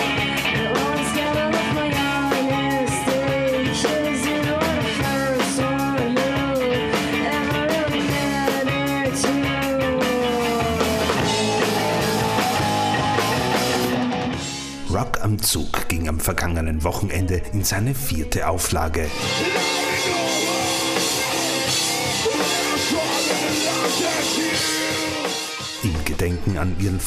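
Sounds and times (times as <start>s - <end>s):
person singing: 0.0s - 13.6s, 16.6s - 27.0s
electric guitars: 0.0s - 14.9s, 18.3s - 27.0s
drum kit: 0.0s - 16.0s, 18.6s - 27.0s.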